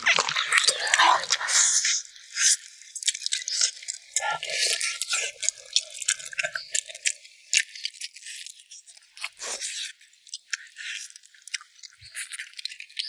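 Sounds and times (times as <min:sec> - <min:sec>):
wet chewing and gnawing: 0:00.0 - 0:13.0.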